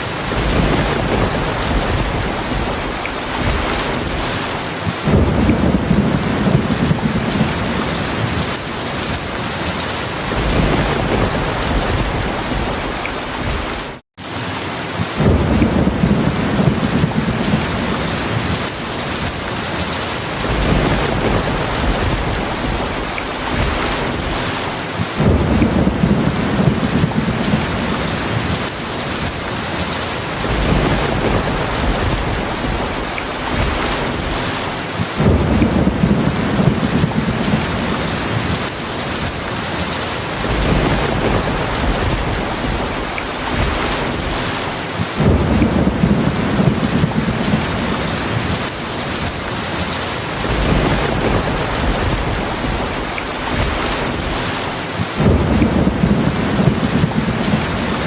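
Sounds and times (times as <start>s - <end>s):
thunder rumbling: 0.0s - 14.0s, 15.0s - 58.0s
heavy rain: 0.0s - 58.0s.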